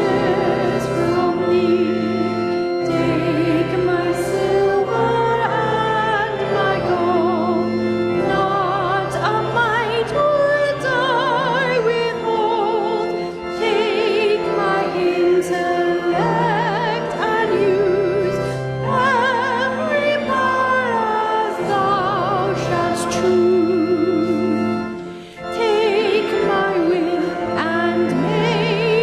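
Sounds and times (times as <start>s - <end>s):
held accompaniment chords: 0.0s - 29.0s
hymn singing with vibrato: 0.0s - 29.0s.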